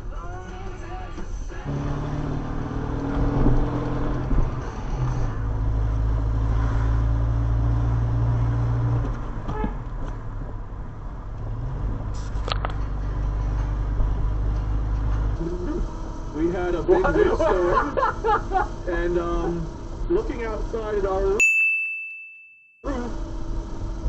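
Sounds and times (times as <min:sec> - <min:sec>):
car engine drone: 0:00.0 - 0:21.4, 0:22.8 - 0:24.0
road noise inside car: 0:00.0 - 0:21.4, 0:22.9 - 0:24.0.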